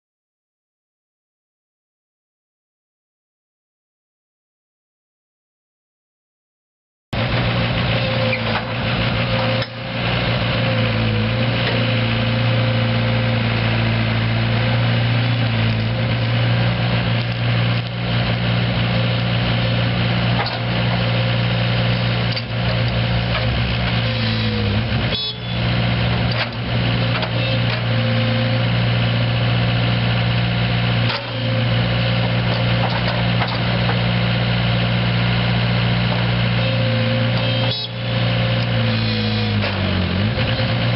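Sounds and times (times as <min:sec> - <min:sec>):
excavator diesel engine running: 0:07.2 - 0:40.9.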